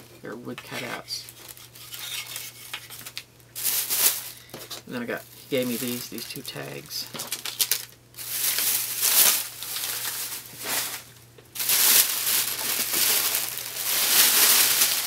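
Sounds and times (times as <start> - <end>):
plastic bag crinkling: 0.8 - 15.0.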